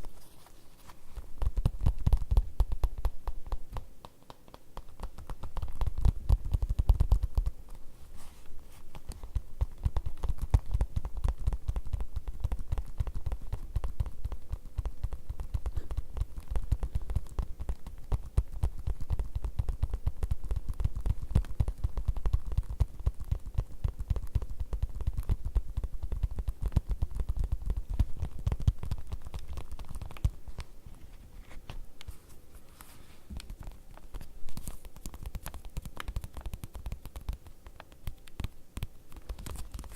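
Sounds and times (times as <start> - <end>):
fast tapping on leather: 0.8 - 30.9, 33.2 - 39.9.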